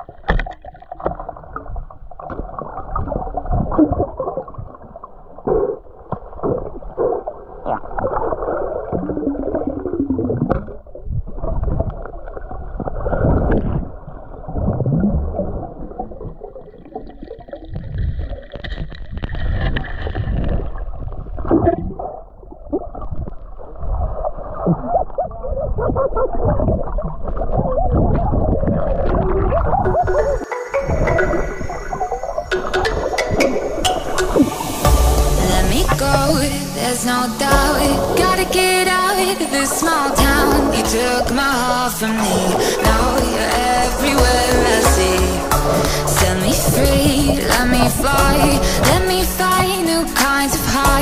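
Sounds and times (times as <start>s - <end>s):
muffled underwater gurgling: 0.0s - 51.0s.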